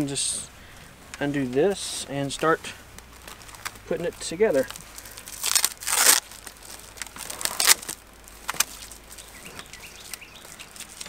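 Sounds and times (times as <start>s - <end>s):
plastic netting rustling: 0.7s - 11.0s.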